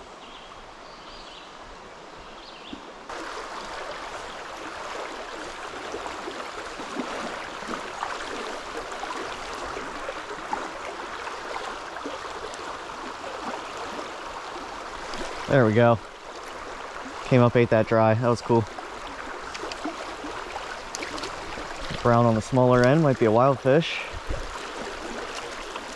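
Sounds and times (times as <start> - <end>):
stream water rushing over rocks: 3.0 - 25.9.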